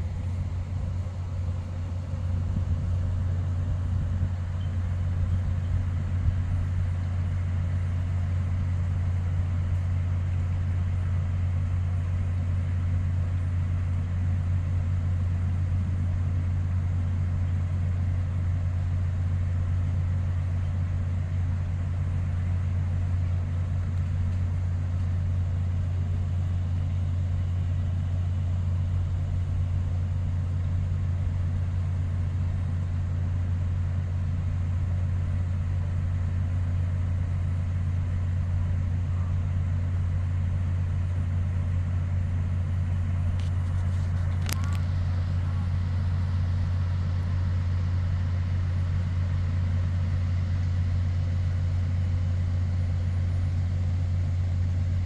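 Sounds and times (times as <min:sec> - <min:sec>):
low ship machinery drone: 0:00.0 - 0:55.0.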